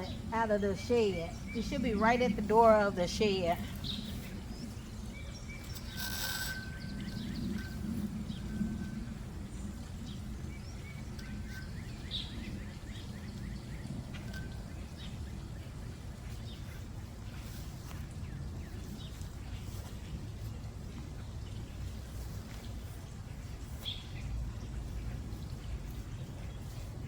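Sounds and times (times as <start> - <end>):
birds chirping faintly: 0.0 - 27.0
low background rumble: 0.0 - 27.0.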